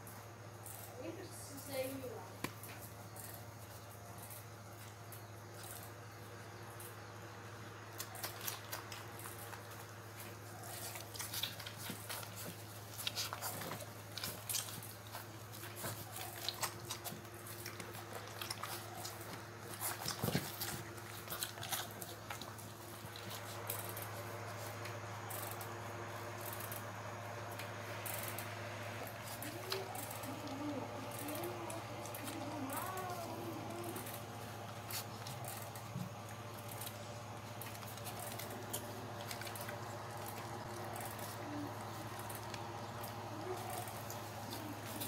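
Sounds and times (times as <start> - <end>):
steady low hum: 0.0 - 45.0
claws clicking on concrete: 7.9 - 45.0.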